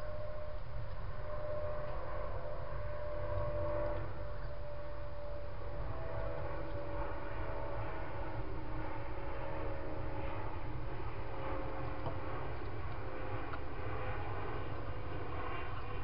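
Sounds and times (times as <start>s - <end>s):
faint long-held tones: 0.0s - 16.0s.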